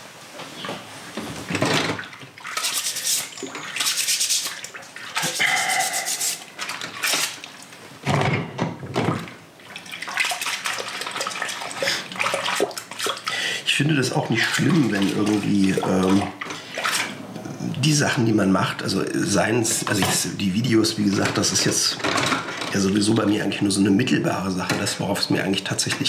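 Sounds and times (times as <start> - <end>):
water splashing in a sink: 1.4 - 17.2, 17.8 - 26.0.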